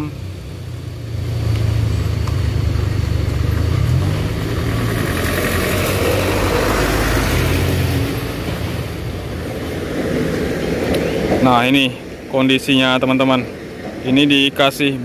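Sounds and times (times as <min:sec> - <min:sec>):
bus engine driving past: 0:00.0 - 0:15.0.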